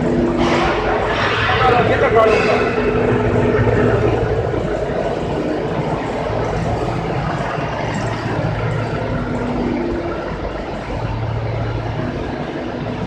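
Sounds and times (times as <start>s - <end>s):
machine mechanical drone: 0.0s - 13.0s.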